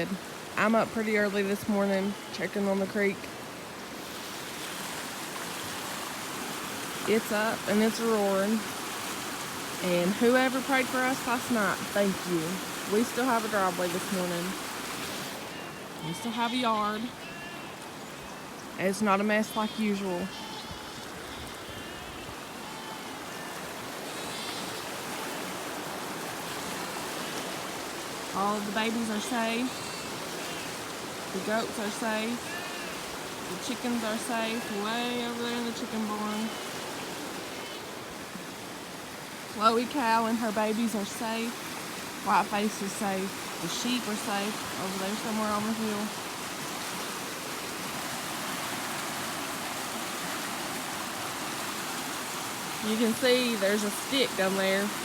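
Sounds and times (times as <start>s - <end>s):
creek rushing: 0.0s - 55.0s.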